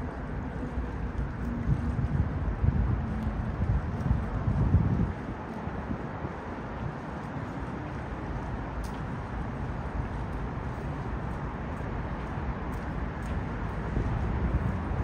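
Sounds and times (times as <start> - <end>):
traffic rumble on bridge: 0.0 - 15.0.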